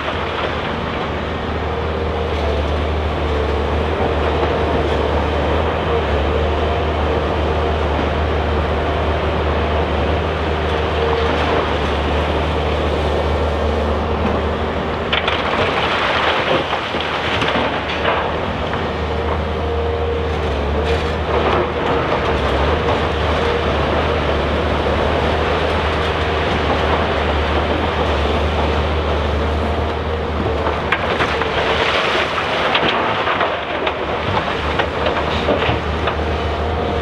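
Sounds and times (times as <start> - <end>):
excavator diesel engine: 0.0 - 37.0
excavator whine: 0.0 - 37.0.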